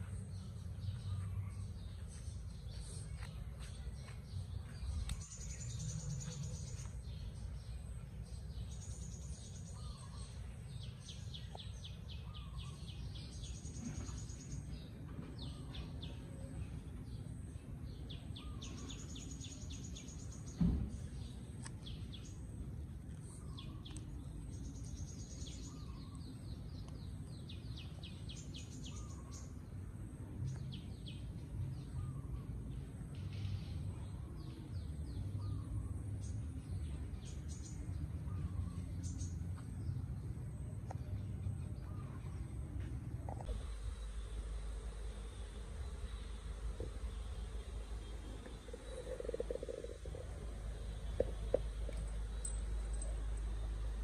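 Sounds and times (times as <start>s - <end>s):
birds chirping: 0.0s - 54.0s
low steady background noise: 0.0s - 54.0s.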